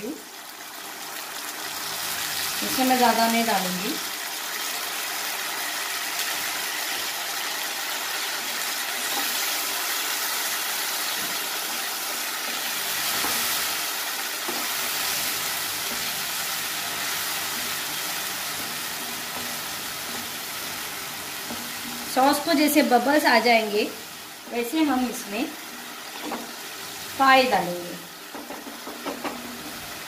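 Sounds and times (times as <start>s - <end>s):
sauce sizzling in a hot pan: 0.0s - 30.0s.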